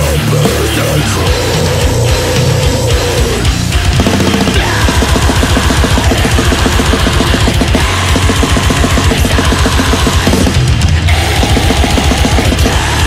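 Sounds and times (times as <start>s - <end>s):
distorted electric guitars: 0.0s - 13.0s
rapid drumming: 0.0s - 13.0s.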